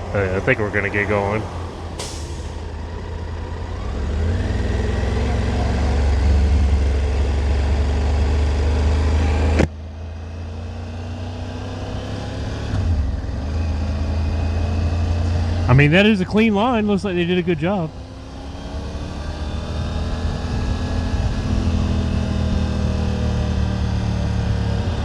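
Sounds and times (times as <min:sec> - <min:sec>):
motorcycle engine accelerating: 0:01.6 - 0:25.0.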